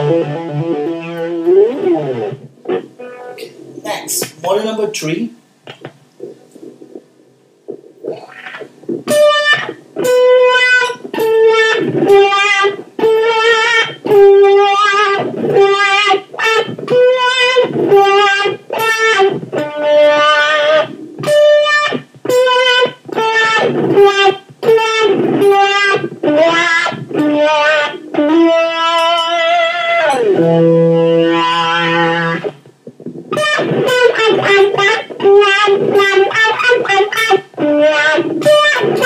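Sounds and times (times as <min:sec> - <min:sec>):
overdriven electric guitar with wah: 0:00.0 - 0:04.3, 0:05.6 - 0:39.0.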